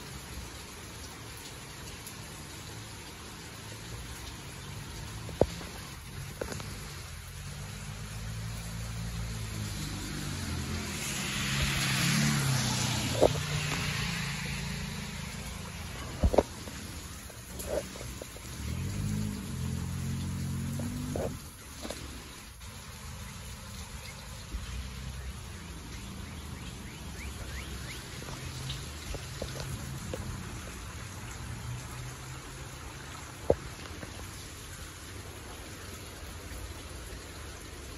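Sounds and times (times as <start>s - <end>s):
car tyres hissing on wet road: 0.0s - 37.9s
steady rainfall: 0.0s - 37.9s.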